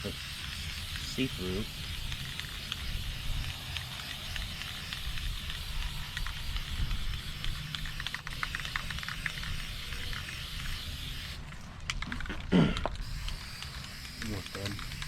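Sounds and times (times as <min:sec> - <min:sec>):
spray paint can hissing: 0:00.0 - 0:15.0.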